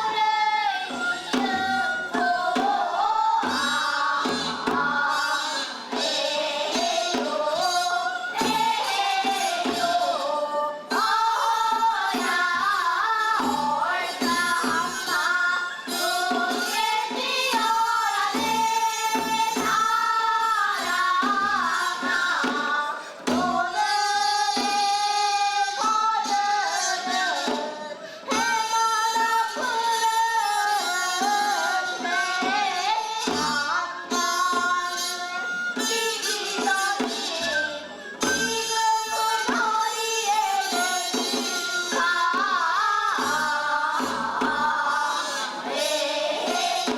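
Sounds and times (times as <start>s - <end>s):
drum beating: 0.0s - 46.9s
people singing folk song: 0.0s - 46.9s.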